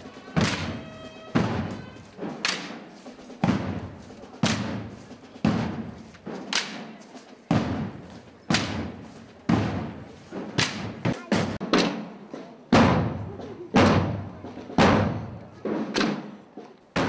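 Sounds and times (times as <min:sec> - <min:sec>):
large drums beating slow march: 0:00.0 - 0:17.0.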